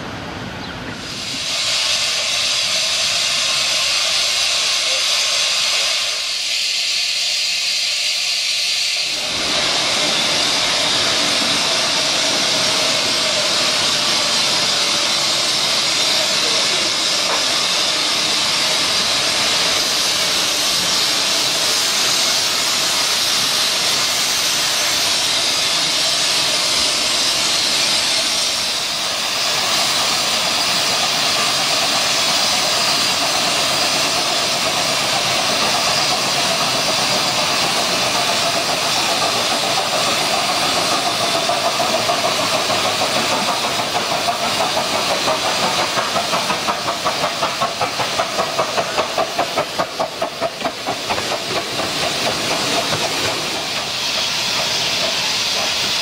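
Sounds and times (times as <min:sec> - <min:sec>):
steam hissing: 0:00.9 - 0:56.0
steam locomotive chuffing: 0:01.0 - 0:56.0.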